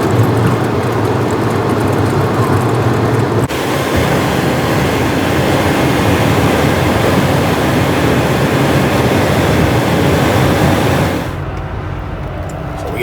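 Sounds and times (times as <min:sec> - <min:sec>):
truck cruising at highway speed: 0:00.0 - 0:13.0.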